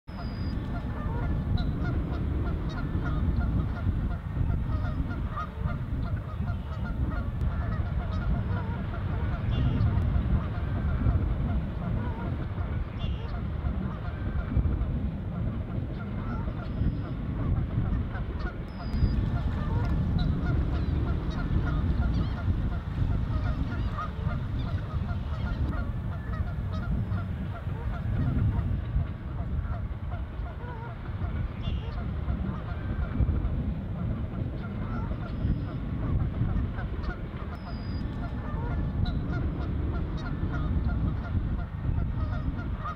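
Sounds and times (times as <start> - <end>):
geese honking: 0.1 - 42.9
steady low rumble: 0.1 - 42.9.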